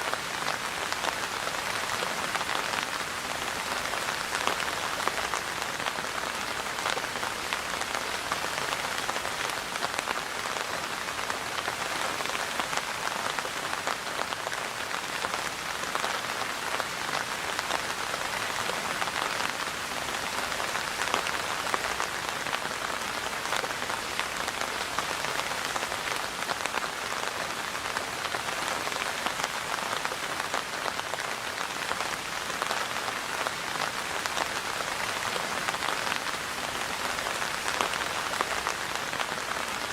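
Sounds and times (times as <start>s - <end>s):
rain patter on a surface: 0.0s - 39.9s.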